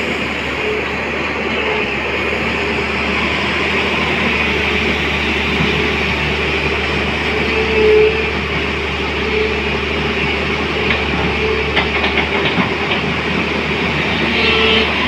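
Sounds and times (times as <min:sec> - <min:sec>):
steady whine: 0:00.0 - 0:12.2
excavator diesel engine under load: 0:00.0 - 0:15.0.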